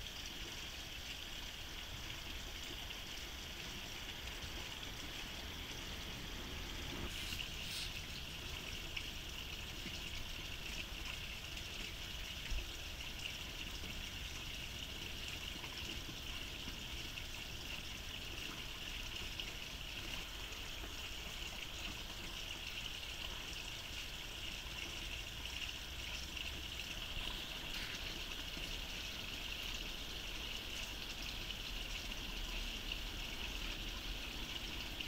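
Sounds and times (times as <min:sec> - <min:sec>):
small stream rushing and trickling: 0:00.0 - 0:35.0.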